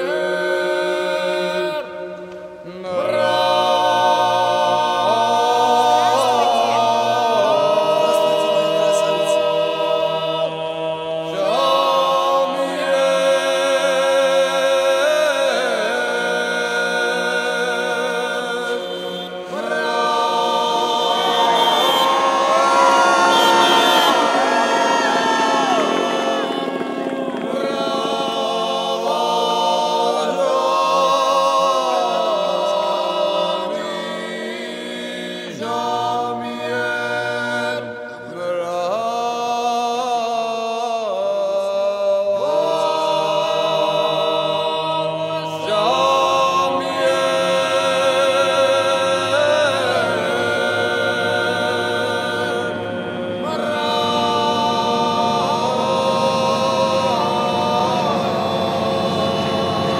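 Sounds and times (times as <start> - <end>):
group singing unaccompanied: 0.0 - 59.9.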